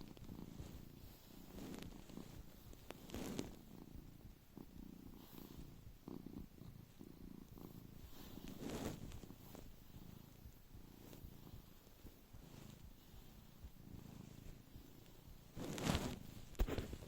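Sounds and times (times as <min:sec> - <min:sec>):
cat purring: 0:00.0 - 0:17.0
snoring breaths: 0:00.3 - 0:17.0.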